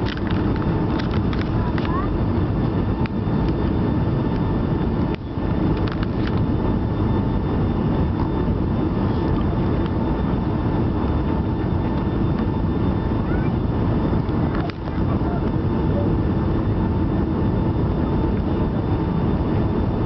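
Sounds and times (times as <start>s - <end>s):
engine and air rumble in cabin: 0.0s - 20.0s
faint steady whine: 0.0s - 20.0s.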